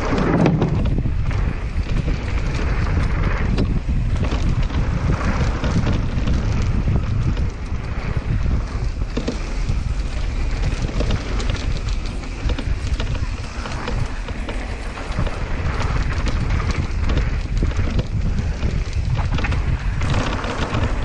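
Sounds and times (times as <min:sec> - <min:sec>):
bike rattling: 0:00.0 - 0:21.0
tyres crackling over dirt and stones: 0:00.0 - 0:21.0
wind rumble on microphone: 0:00.0 - 0:21.0.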